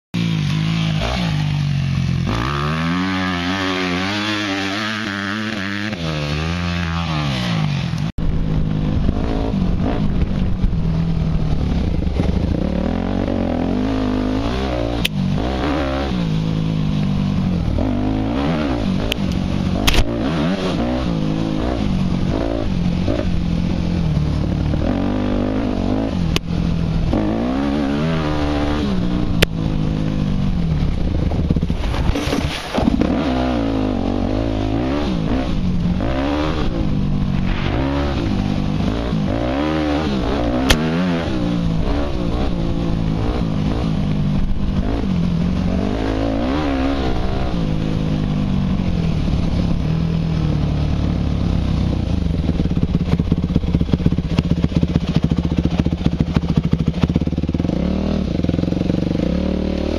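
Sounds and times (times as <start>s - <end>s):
dirt bike engine revving: 0.2s - 59.9s.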